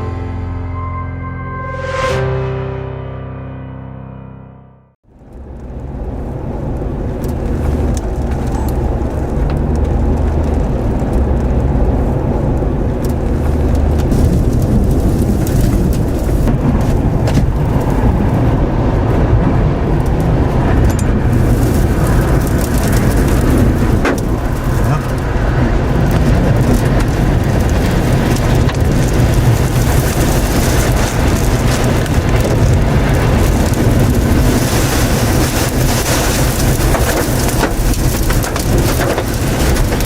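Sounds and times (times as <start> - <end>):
loud roar of wind: 5.3 - 40.0.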